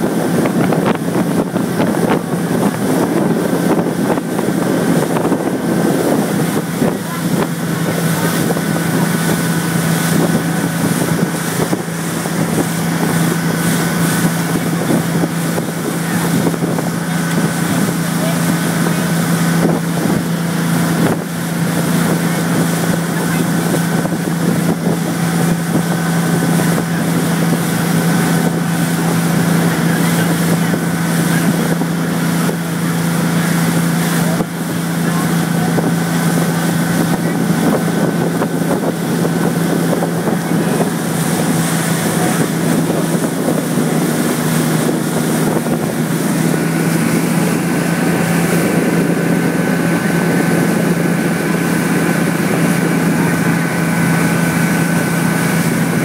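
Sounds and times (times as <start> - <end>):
motorboat engine running: 0.0 - 56.0
wind buffeting microphone: 0.0 - 56.0.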